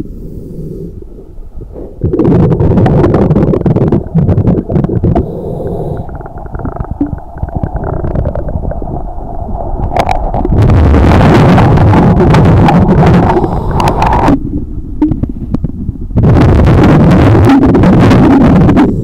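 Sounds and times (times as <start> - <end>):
underwater rumble and sloshing: 0.0 - 19.0.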